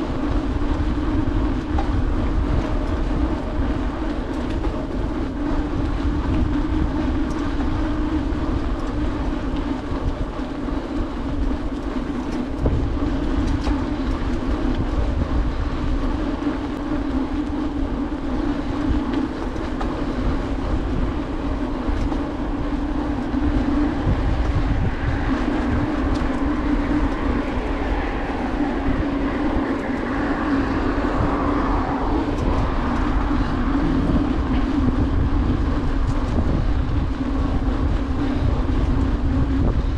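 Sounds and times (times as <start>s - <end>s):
bicycle tyres rumbling on pavement: 0.0s - 39.9s
wind on microphone: 0.0s - 39.9s.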